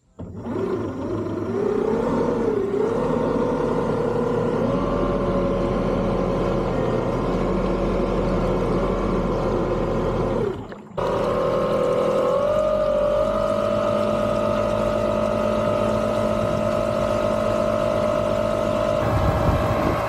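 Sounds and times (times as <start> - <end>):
electric outboard motor whine: 0.0 - 20.0.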